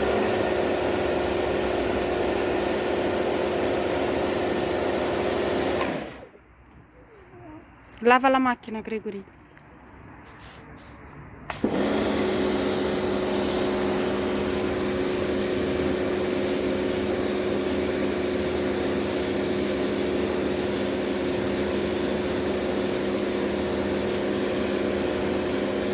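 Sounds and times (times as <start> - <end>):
pressure washer motor hum: 0.0 - 6.4, 11.5 - 25.9.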